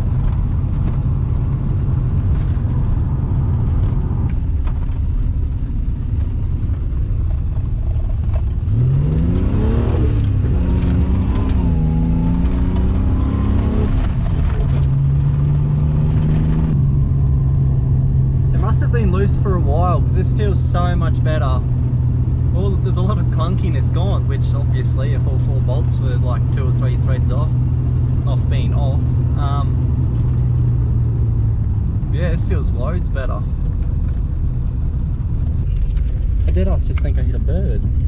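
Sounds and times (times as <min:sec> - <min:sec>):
car engine revving: 0:00.0 - 0:38.0
road noise inside car: 0:00.0 - 0:38.0.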